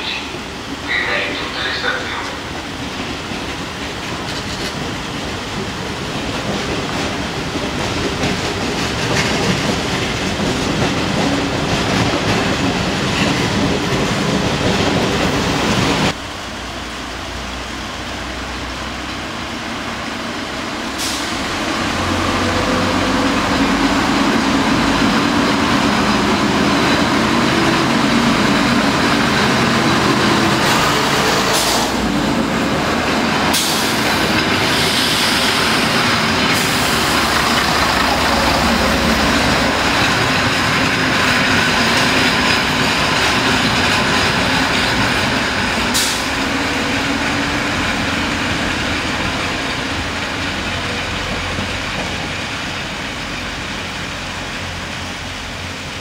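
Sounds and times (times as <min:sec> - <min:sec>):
diesel train engine: 0:00.0 - 0:56.0.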